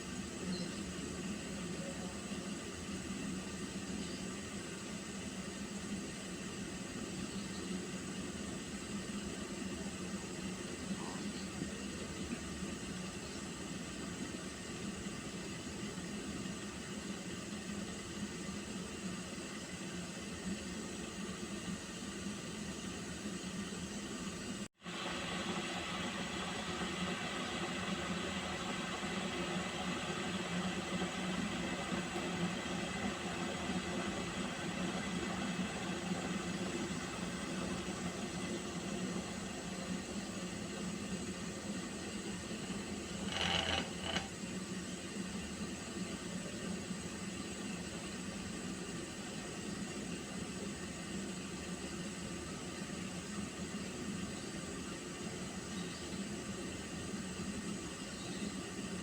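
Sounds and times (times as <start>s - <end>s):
water heating in a pot: 0.0s - 59.0s.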